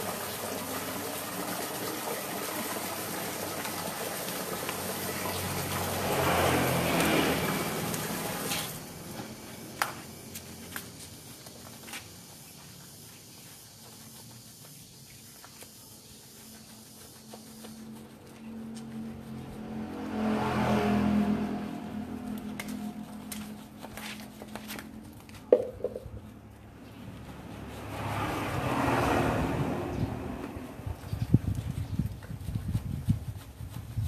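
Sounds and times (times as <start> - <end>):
vehicle engine hum passing: 0.0 - 34.0.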